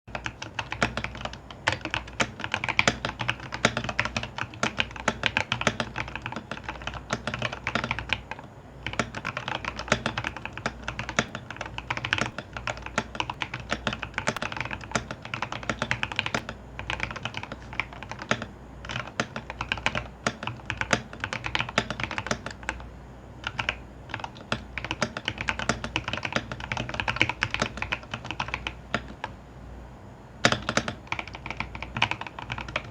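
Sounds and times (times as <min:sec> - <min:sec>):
mechanical keyboard typing: 0:00.1 - 0:29.4, 0:30.4 - 0:32.9.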